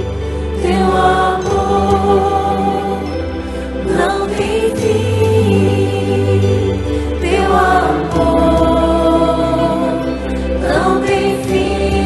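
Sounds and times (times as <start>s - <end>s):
steady low bass: 0.0s - 12.0s
voices singing worship song: 0.0s - 12.0s.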